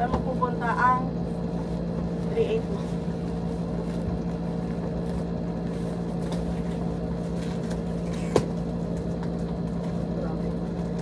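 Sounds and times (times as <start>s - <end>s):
electrical motor hum: 0.0s - 11.0s.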